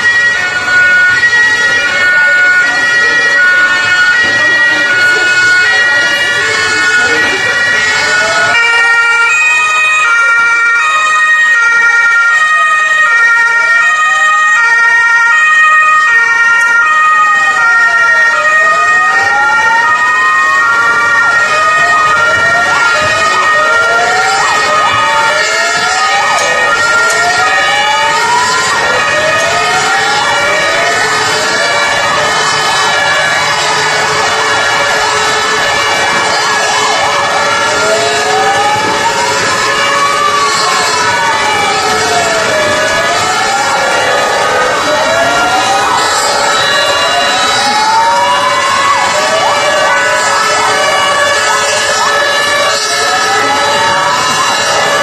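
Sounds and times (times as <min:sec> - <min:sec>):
steady siren tone: 0:00.0 - 0:55.0
two-tone sirens: 0:00.0 - 0:55.0
wail sirens: 0:00.0 - 0:55.0
yelping siren sweeps: 0:00.0 - 0:55.0.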